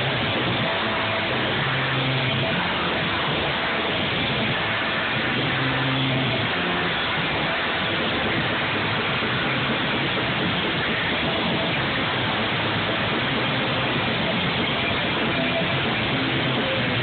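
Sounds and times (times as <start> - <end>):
distorted doom metal band: 0.0 - 17.0.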